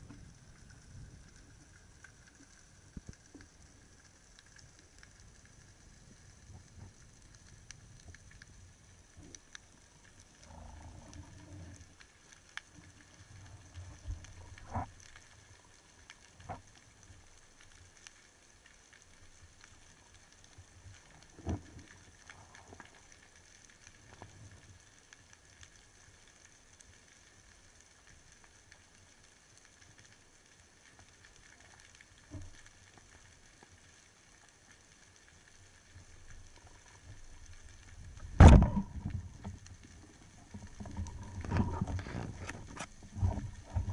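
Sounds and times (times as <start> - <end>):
faint underwater hiss: 0.0 - 43.9.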